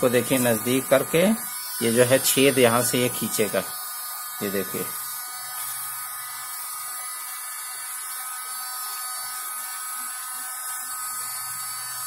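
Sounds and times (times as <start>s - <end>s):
mini vacuum cleaner whine: 0.0s - 12.0s.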